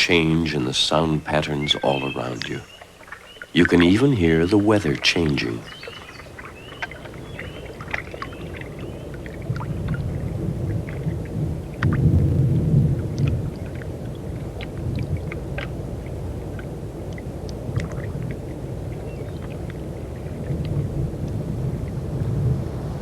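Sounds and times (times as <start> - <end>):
thunder rumbling: 3.6 - 23.0.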